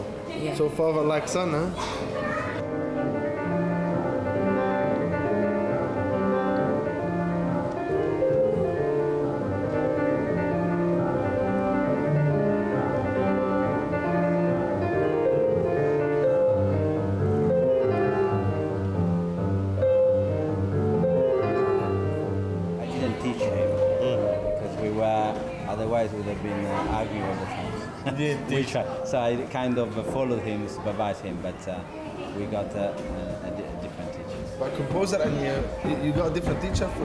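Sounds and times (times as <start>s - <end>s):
grand piano playing: 0.0s - 37.0s.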